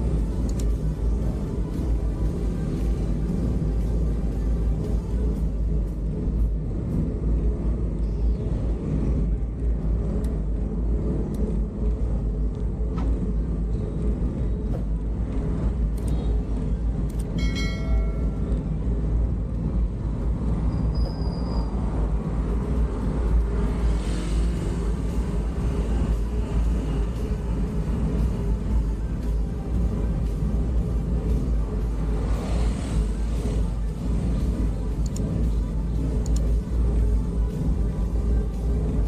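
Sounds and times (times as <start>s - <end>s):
traffic and engine noise: 0.0s - 39.0s.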